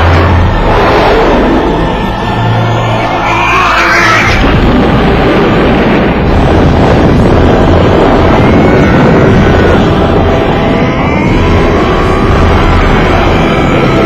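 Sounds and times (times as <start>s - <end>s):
energy blast rushing with rumble: 0.0s - 14.0s.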